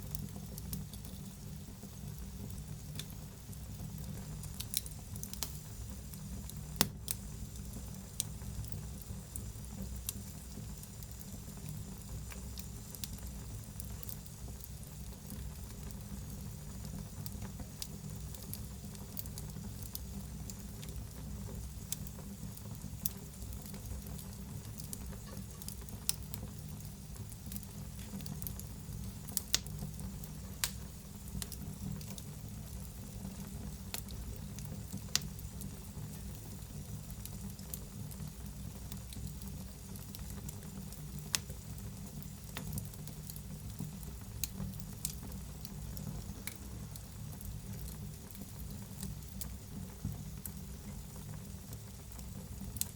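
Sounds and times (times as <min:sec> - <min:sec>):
fire popping and crackling: 0:00.0 - 0:52.9
fire rumble and hiss: 0:00.0 - 0:52.9.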